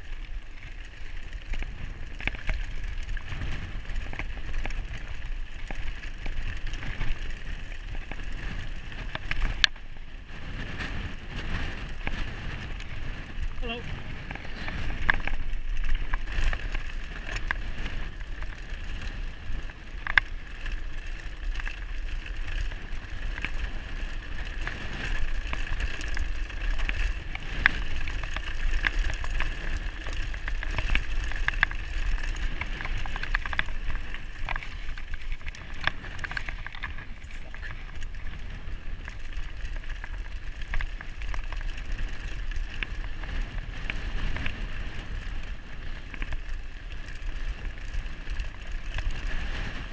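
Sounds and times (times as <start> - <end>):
bike tyres rattling on gravel: 0.0 - 49.9
wheels knocking on stones: 0.0 - 49.9.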